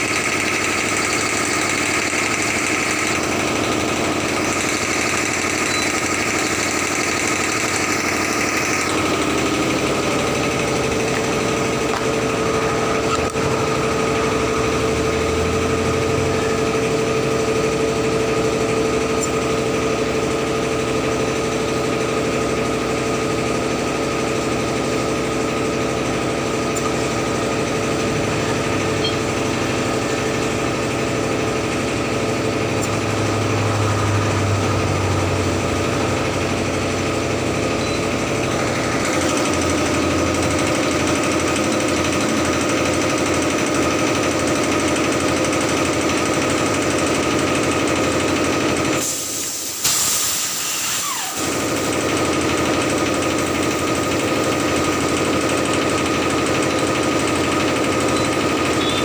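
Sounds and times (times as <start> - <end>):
machine running with rapid rattle: 0.0 - 59.0.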